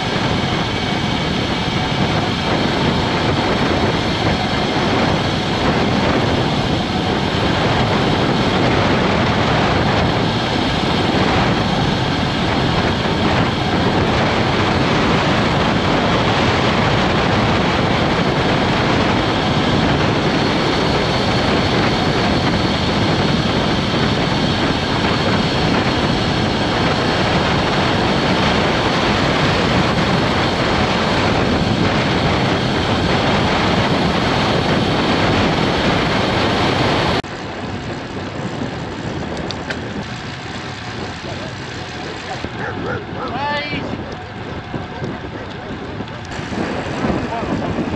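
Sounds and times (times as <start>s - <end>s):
tyre noise on asphalt: 0.0s - 47.9s
wind noise on microphone: 0.0s - 47.9s.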